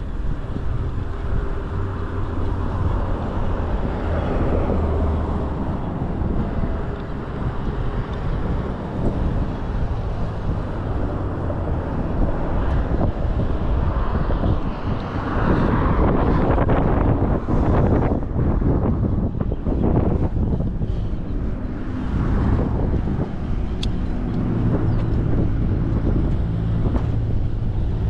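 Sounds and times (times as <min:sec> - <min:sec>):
low riding rumble: 0:00.0 - 0:28.0
wind rushing over microphone: 0:00.0 - 0:28.0.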